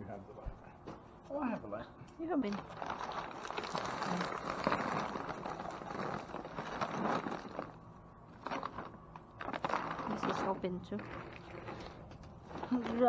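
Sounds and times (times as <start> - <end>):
plastic bags crinkling and rustling: 2.3 - 13.0.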